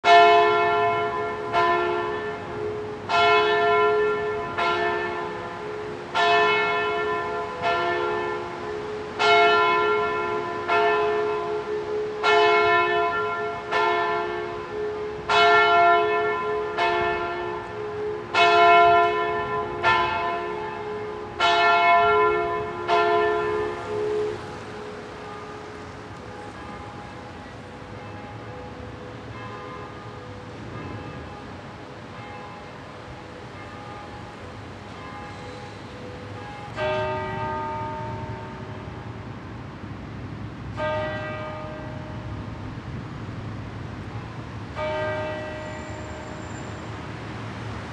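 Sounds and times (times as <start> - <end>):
church bells ringing: 0.0 - 39.6, 40.7 - 42.8, 43.9 - 47.9.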